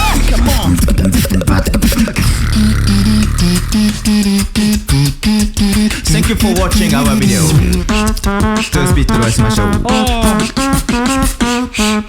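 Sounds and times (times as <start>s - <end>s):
beatbox vocal bass: 0.0s - 12.0s
percussive mouth sounds: 0.0s - 12.0s.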